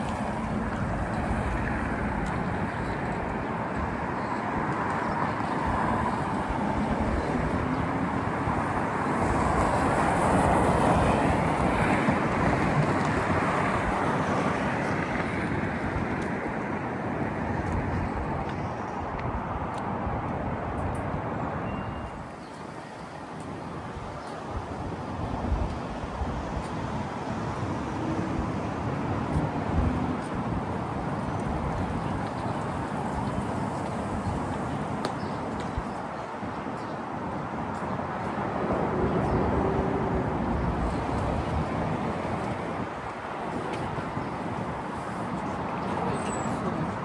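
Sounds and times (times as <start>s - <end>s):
street traffic passing: 0.0s - 47.0s.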